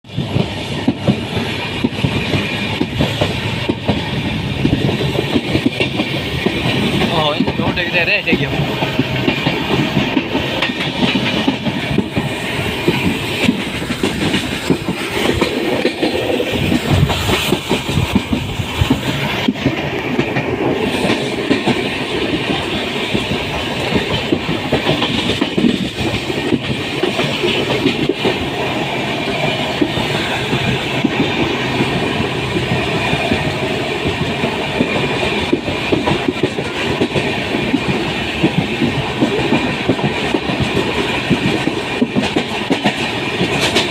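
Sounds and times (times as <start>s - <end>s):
train wheels clattering on rails: 0.0s - 43.9s.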